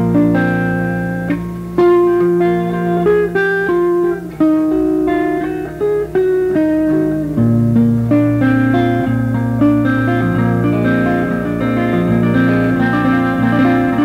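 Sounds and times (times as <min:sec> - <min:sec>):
two guitars playing: 0:00.0 - 0:14.0.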